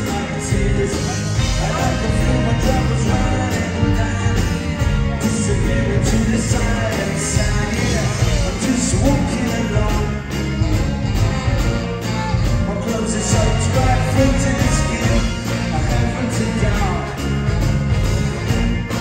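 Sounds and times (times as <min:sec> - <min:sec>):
male lead vocal: 0:00.0 - 0:17.6
ska-pop band playing: 0:00.0 - 0:19.0.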